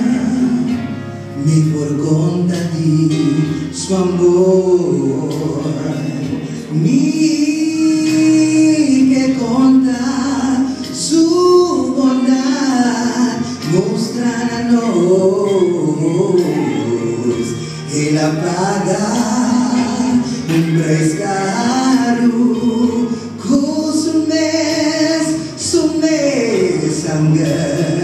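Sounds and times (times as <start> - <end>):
group singing gospel: 0.0 - 28.0.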